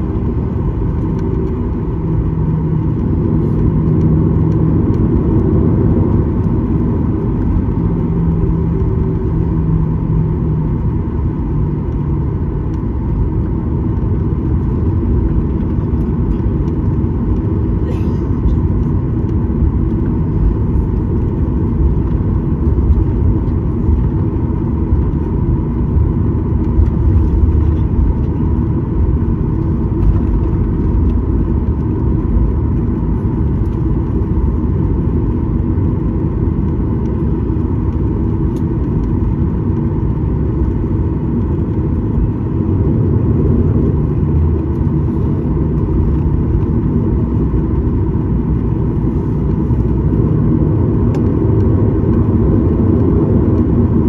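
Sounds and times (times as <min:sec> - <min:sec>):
deep rumble of wheels: 0:00.0 - 0:54.0
jet engines running: 0:00.0 - 0:54.0.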